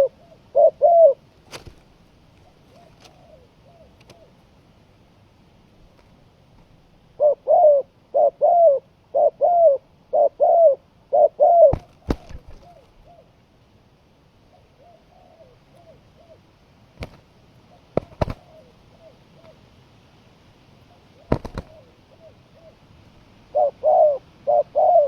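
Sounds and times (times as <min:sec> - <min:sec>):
dove cooing: 0:00.0 - 0:04.4, 0:07.1 - 0:13.4, 0:14.5 - 0:19.7, 0:20.8 - 0:25.0.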